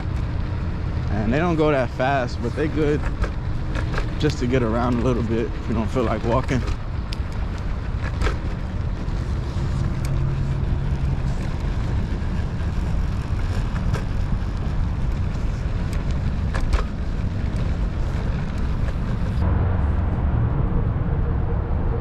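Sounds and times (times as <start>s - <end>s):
sharp clicks from bumps: 0.0s - 19.4s
scooter wheels rumbling: 0.0s - 20.0s.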